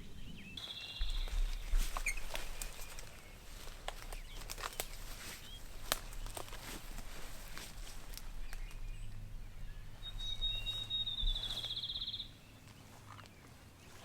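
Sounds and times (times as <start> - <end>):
small songbird trilling: 0.0 - 13.4
faint rustles and ticks: 0.6 - 11.9.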